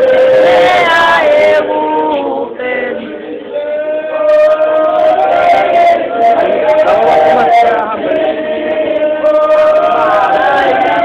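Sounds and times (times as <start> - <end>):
congregation singing: 0.0 - 11.0.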